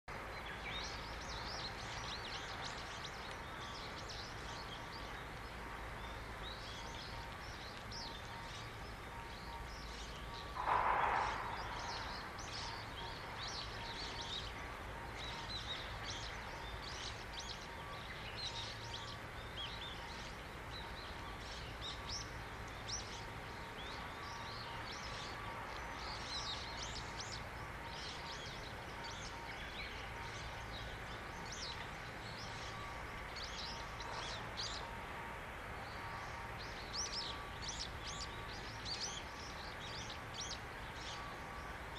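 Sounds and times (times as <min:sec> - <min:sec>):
small birds chirping: 0:00.1 - 0:35.0, 0:35.8 - 0:41.9
distant background hum: 0:00.1 - 0:41.9.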